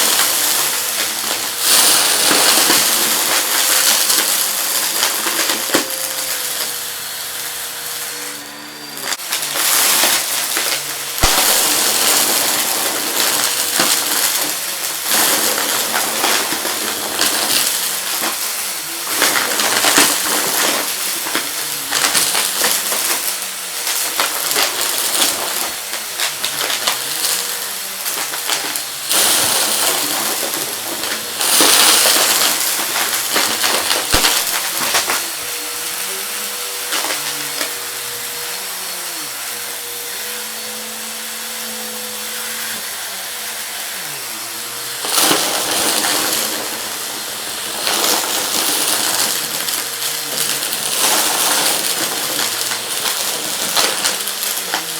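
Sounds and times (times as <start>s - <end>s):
debris rattling through vacuum: 0.0s - 54.9s
vacuum cleaner running: 0.0s - 54.9s.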